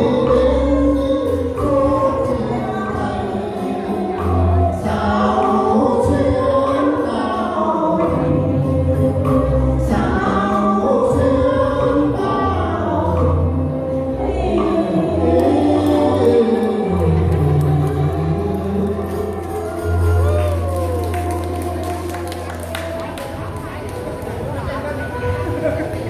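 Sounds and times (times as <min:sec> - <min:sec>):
bass notes: 0:00.0 - 0:26.0
choir-like voices: 0:00.0 - 0:26.0.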